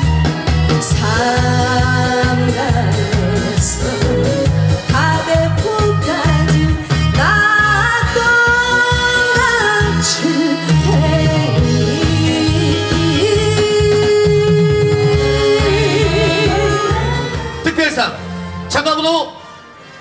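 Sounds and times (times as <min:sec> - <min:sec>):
amplified backing music with beat: 0:00.0 - 0:20.0
woman singing into microphone: 0:00.8 - 0:17.6.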